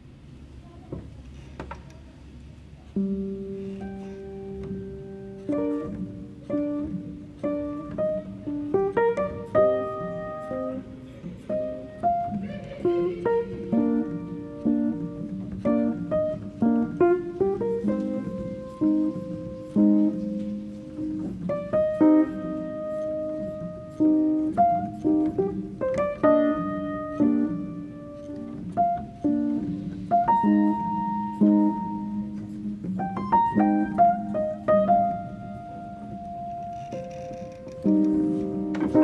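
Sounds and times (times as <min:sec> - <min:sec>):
slow piano music: 0:02.8 - 0:39.0.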